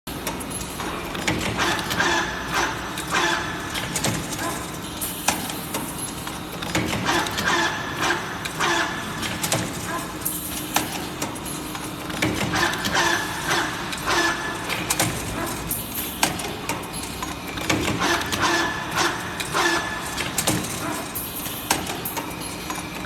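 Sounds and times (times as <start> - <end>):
steady machine hum: 0.1 - 23.0.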